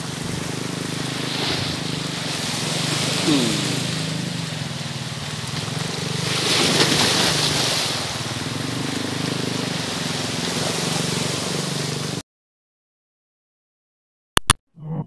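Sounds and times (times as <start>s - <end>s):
boat engine droning: 0.0s - 12.2s
small sea waves: 0.0s - 12.2s.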